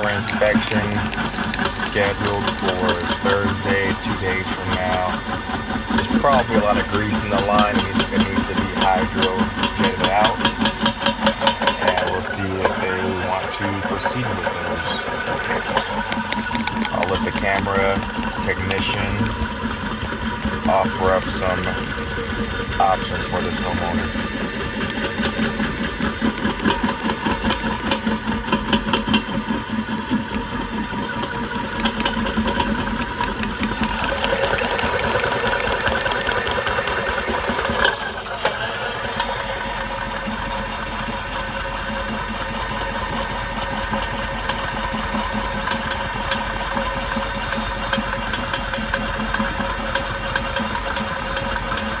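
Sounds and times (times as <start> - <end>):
machine running with rhythmic chatter: 0.0 - 52.0.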